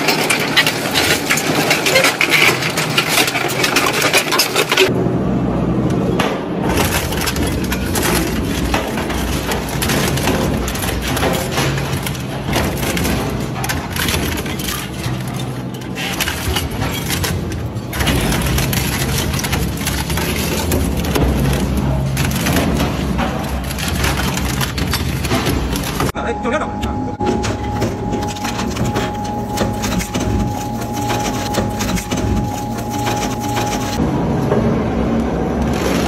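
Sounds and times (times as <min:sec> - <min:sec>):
shredder crushing metal: 0:00.0 - 0:05.0, 0:06.6 - 0:26.2, 0:27.2 - 0:34.0.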